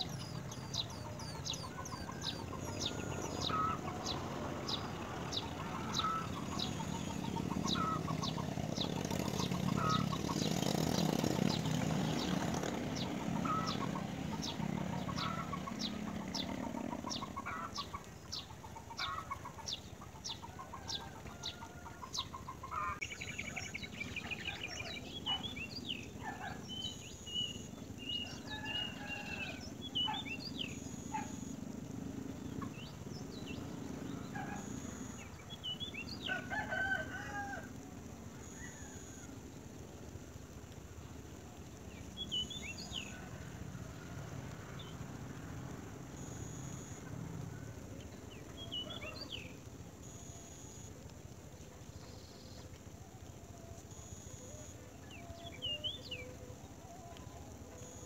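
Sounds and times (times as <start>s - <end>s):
birds chirping and warbling: 0.0s - 43.4s, 47.7s - 58.0s.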